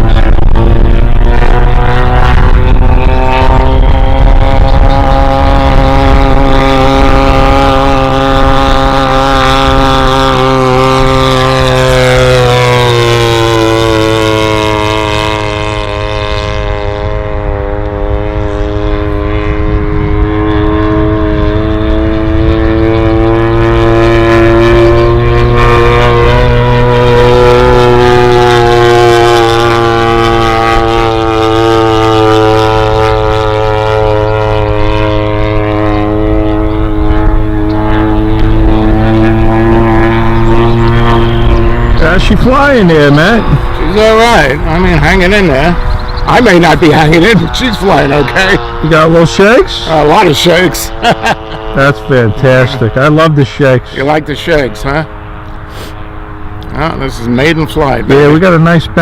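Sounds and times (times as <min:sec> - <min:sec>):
model plane engine running hard: 0:00.0 - 0:59.0.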